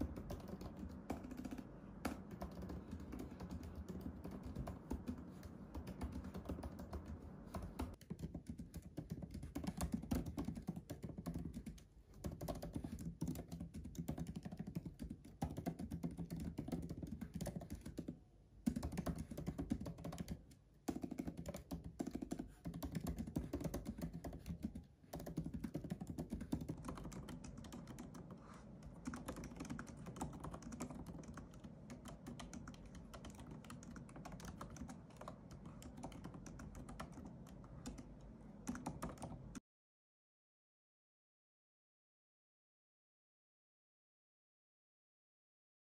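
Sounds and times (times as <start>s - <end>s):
laptop keyboard typing: 0.0s - 39.6s.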